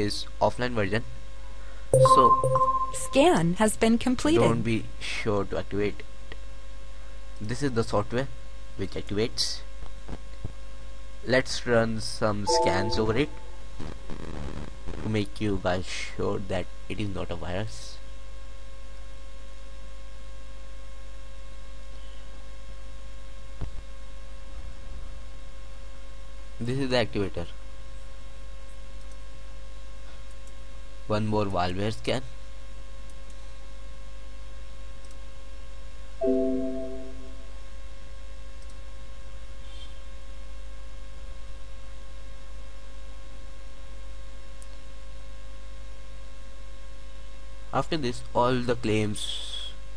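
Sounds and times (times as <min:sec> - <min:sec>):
electrical hum with hiss: 0:00.0 - 0:02.4, 0:03.0 - 0:49.9.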